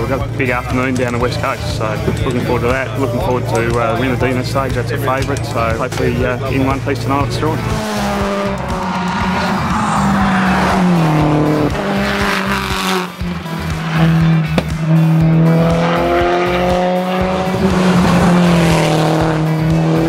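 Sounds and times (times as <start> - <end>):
rally car engine running hard: 0.0 - 20.0.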